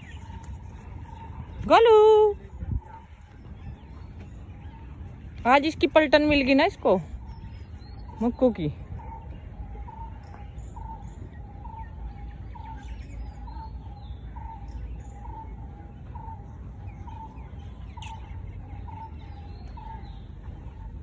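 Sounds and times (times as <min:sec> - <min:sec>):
faint high bird chirps: 0:00.0 - 0:21.0.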